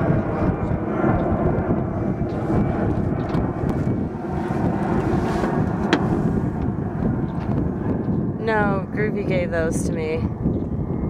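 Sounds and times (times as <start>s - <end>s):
boat engine rumble: 0.0s - 10.4s
wind buffeting microphone: 0.0s - 11.0s.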